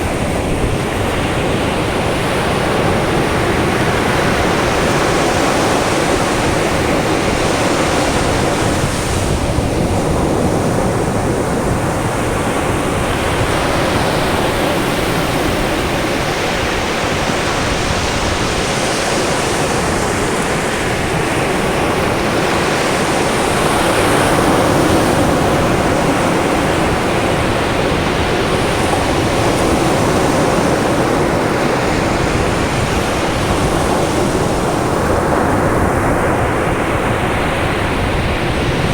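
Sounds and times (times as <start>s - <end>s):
surf breaking on beach: 0.0s - 38.9s.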